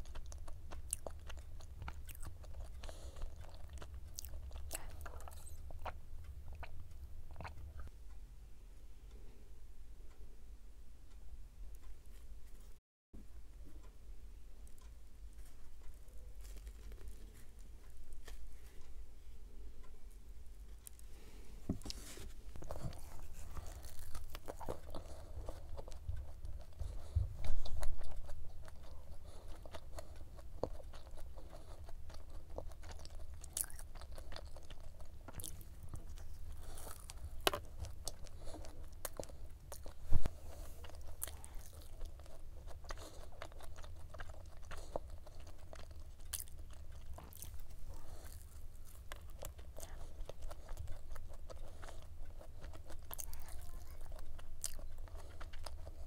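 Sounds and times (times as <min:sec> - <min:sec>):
chewing crisp pastry: 0:00.0 - 0:07.9, 0:14.6 - 0:56.0.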